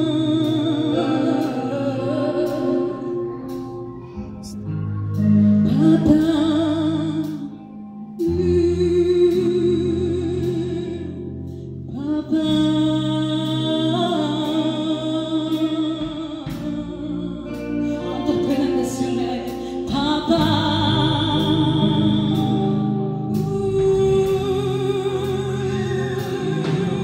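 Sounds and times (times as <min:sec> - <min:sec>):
woman singing with vibrato: 0:00.0 - 0:27.0
worship band playing: 0:00.0 - 0:27.0.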